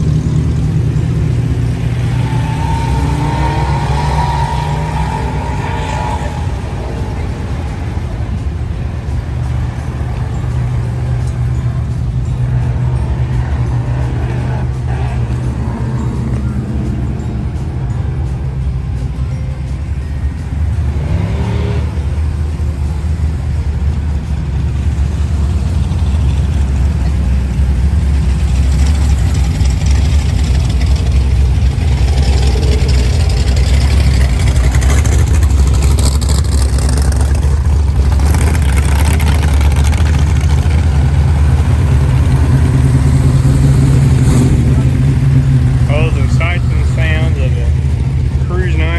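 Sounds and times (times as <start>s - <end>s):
car engines rumbling: 0.0s - 48.9s.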